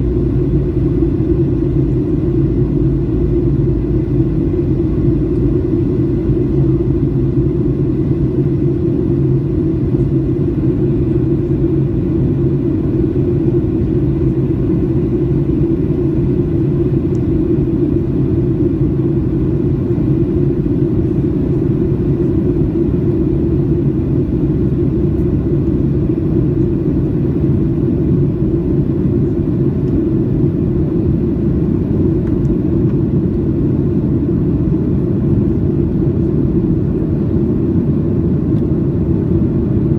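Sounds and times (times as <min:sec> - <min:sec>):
airliner cabin low drone: 0:00.0 - 0:39.9
steady low hums: 0:00.0 - 0:39.9.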